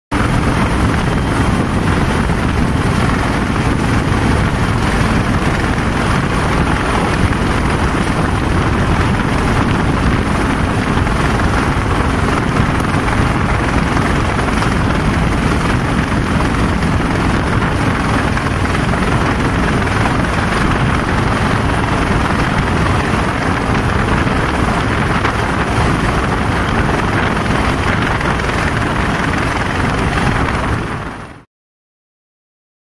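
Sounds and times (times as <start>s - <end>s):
helicopter hovering overhead: 0.1s - 31.5s.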